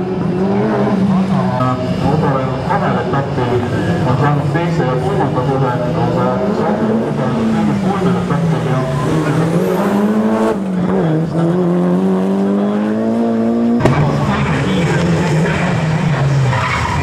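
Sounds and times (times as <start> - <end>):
rally car engines at full throttle: 0.0 - 17.0.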